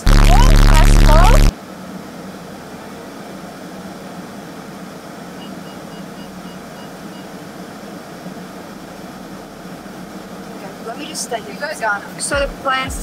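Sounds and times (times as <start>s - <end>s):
car air-conditioning fan blowing: 0.0s - 13.0s.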